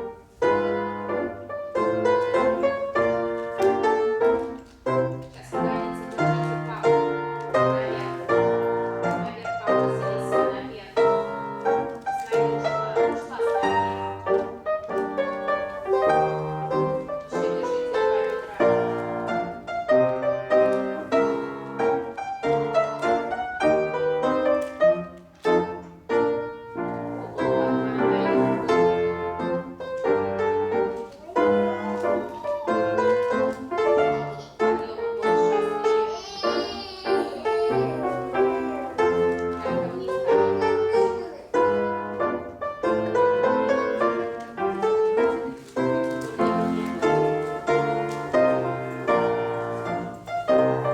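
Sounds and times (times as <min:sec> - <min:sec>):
classical piano music: 0:00.0 - 0:50.9.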